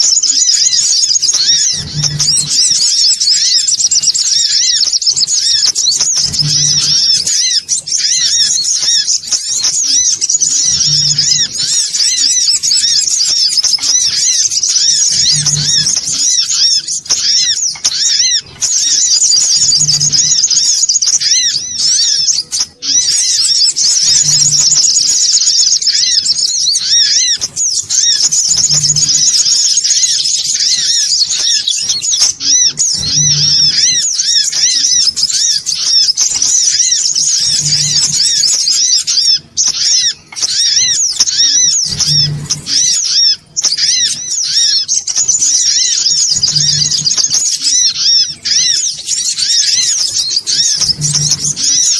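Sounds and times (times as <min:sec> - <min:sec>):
rapid high bird chirps and trills: 0:00.0 - 0:51.9.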